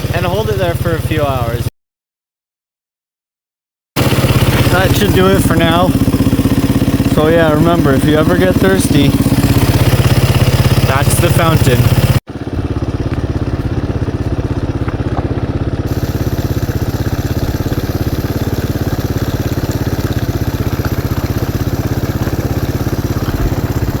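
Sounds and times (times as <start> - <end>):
dirt bike engine idling: 0.0 - 1.7, 4.0 - 24.0.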